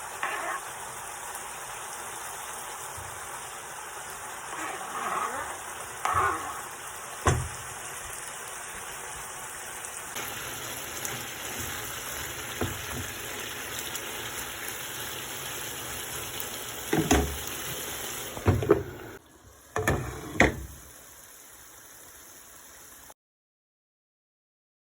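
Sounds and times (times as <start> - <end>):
food sizzling in a frying pan: 0.0 - 23.2.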